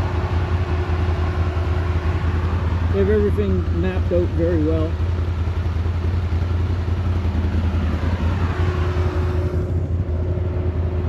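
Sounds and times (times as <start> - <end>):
atv engine rumbling: 0.0 - 11.0
road noise: 0.0 - 11.0.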